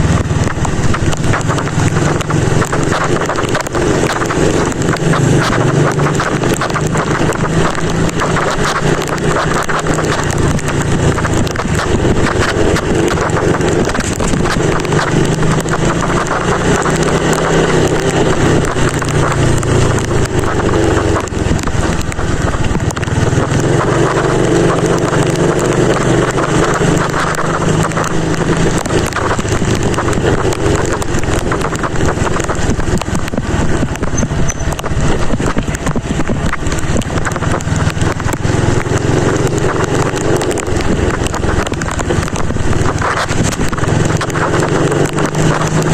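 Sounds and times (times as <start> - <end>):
motorcycle engine running: 0.0 - 45.9
wind noise on microphone: 0.0 - 45.9.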